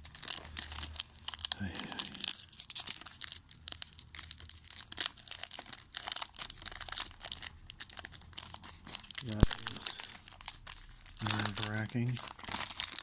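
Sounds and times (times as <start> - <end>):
wrapper tearing and crinkling: 0.0 - 13.0.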